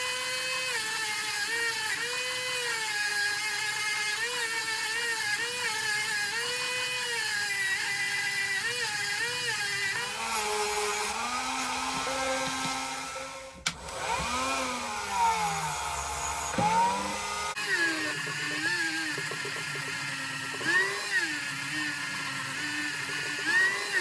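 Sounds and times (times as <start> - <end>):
rotary power tool whining: 0.0 - 24.0.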